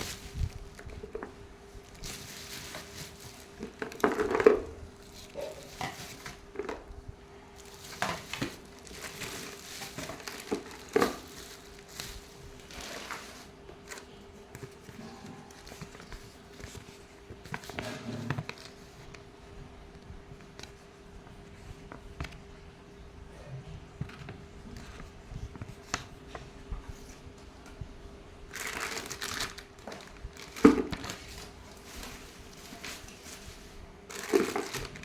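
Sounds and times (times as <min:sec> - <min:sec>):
crinkling: 0:00.0 - 0:22.6, 0:28.4 - 0:35.0
faint steady hum: 0:00.0 - 0:35.0.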